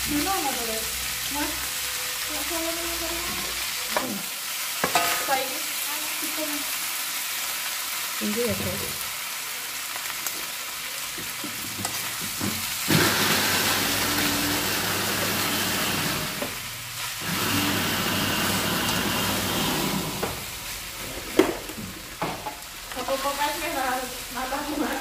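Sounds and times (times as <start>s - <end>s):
rice sizzling in a wok: 0.0s - 25.0s.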